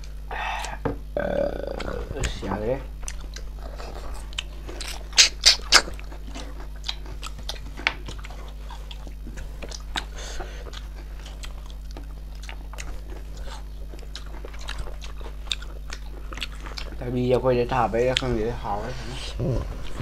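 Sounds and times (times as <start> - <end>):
low steady hum: 0.0 - 20.0
wet chewing sounds: 1.7 - 20.0.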